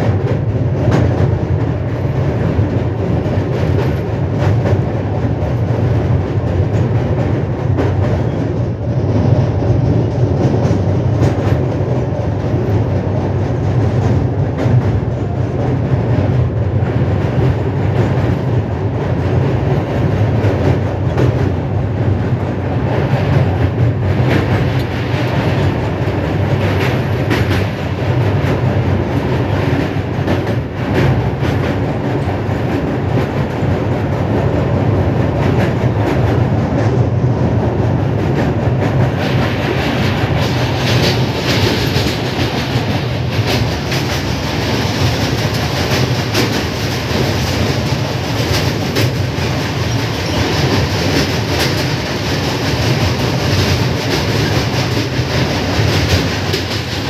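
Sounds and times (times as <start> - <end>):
clickety-clack over rail joints: 0.0 - 57.0
train wheels rumbling on rails: 0.0 - 57.0.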